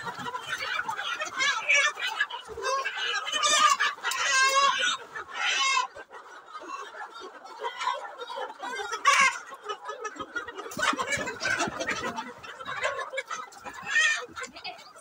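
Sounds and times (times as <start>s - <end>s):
chickens clucking and squawking: 0.0s - 15.0s
children laughing: 0.0s - 15.0s.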